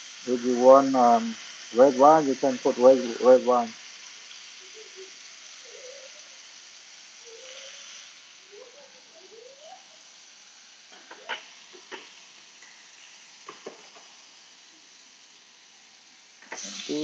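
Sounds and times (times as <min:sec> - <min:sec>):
steaks sizzling in a frying pan: 0:00.0 - 0:17.0.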